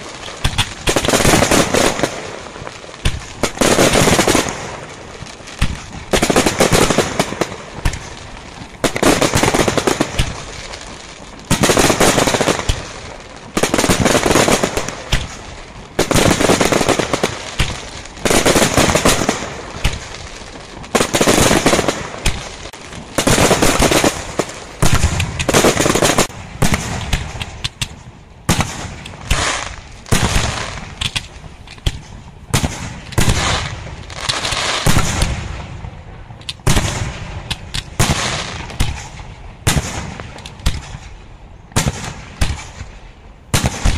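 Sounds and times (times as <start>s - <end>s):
firework shells bursting: 0.0s - 35.5s
firework crackling: 0.0s - 43.9s.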